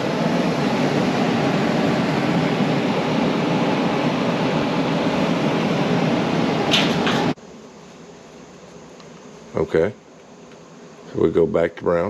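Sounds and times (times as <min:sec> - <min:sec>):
blower fan rushing air: 0:00.0 - 0:12.0.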